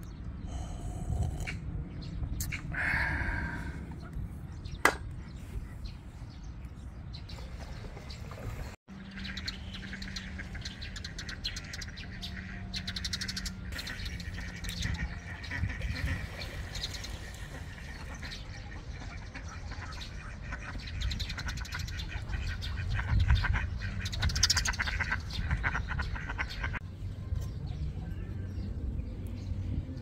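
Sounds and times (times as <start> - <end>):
low outdoor rumble: 0.0 - 30.0
small birds chirping: 0.0 - 30.0.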